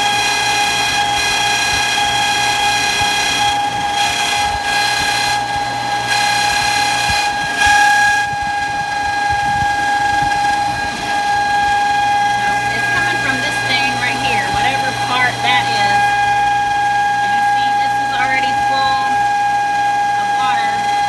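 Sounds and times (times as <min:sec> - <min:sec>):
high-pitched motor squeal: 0:00.0 - 0:21.0
pool pump rushing: 0:00.0 - 0:21.0.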